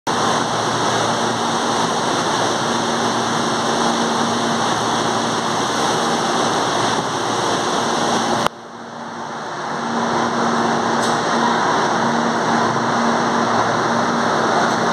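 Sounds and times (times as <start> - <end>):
train wheel running noise: 0.1 - 14.9.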